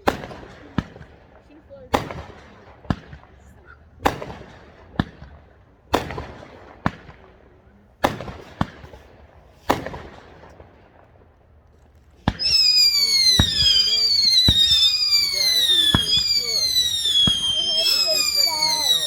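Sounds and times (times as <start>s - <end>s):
fireworks bangs with echo: 0.0s - 3.3s, 4.0s - 7.4s, 8.0s - 11.0s, 12.2s - 19.0s.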